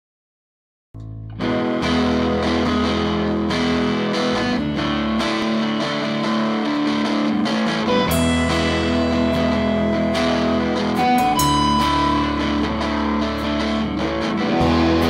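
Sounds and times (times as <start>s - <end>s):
live rock band playing: 1.4s - 15.0s.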